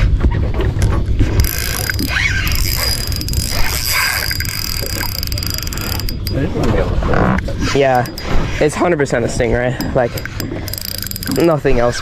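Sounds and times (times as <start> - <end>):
fishing reel ticking and whining: 1.2 - 12.0.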